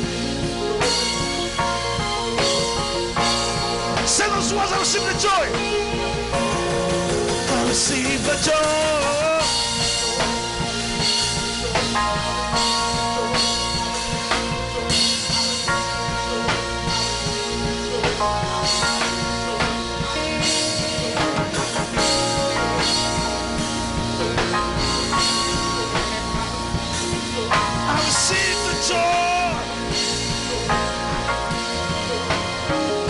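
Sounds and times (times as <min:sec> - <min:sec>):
bass line: 0:00.0 - 0:33.0
drum kit beat: 0:00.0 - 0:33.0
sustained chords: 0:00.0 - 0:33.0.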